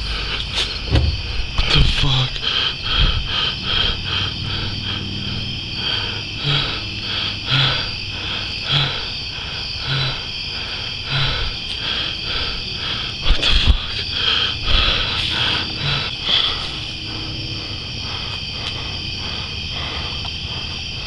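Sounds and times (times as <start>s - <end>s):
night insects chirping: 0.0s - 21.0s.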